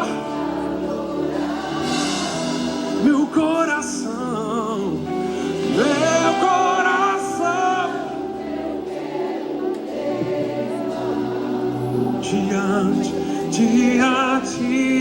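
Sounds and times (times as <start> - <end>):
sustained musical accompaniment: 0.0 - 15.0
voices singing with vibrato: 0.0 - 15.0.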